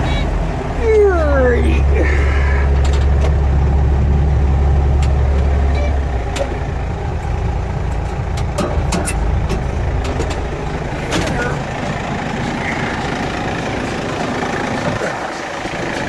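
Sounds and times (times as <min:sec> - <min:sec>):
tractor engine drone: 0:00.0 - 0:16.0.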